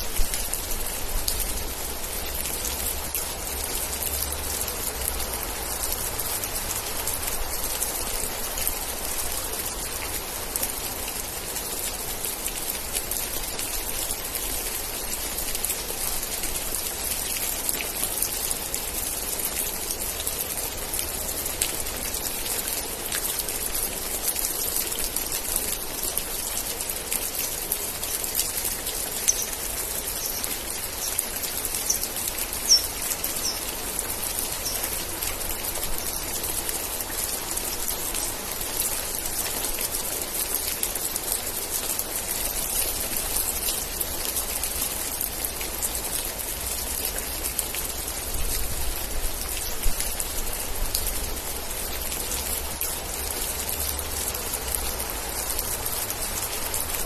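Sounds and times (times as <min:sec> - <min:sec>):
rain dripping on surfaces: 0:00.0 - 0:57.0.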